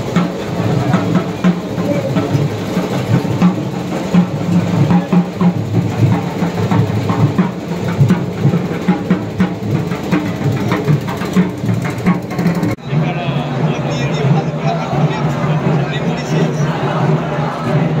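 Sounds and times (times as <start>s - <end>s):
crowd voices: 0.0s - 18.0s
drums beating: 0.0s - 18.0s.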